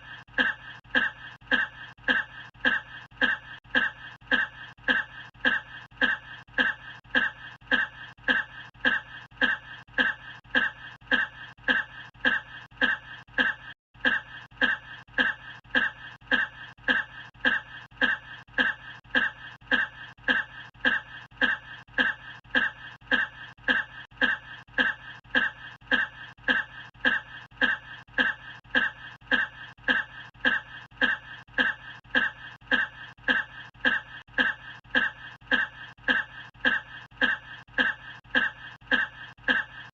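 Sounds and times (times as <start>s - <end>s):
looped human cough: 0.0s - 39.9s.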